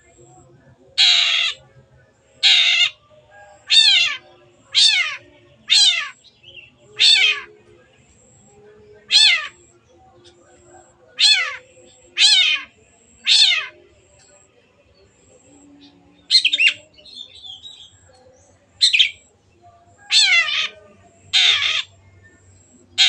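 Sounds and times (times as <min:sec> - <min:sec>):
shrike calling: 0:00.9 - 0:01.6, 0:02.2 - 0:14.5, 0:15.1 - 0:23.0.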